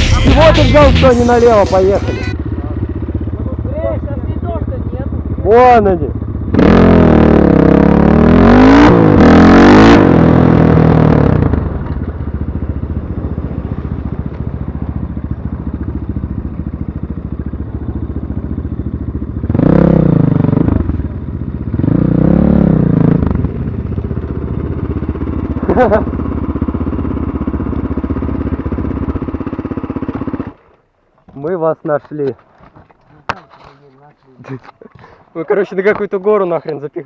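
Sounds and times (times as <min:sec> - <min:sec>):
motorcycle engine revving: 0:00.0 - 0:30.8.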